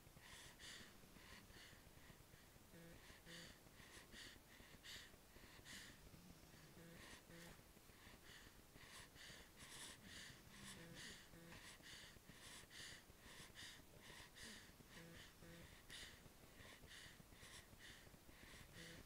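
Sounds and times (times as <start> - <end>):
baby snuffly breathing: 0.1 - 19.0.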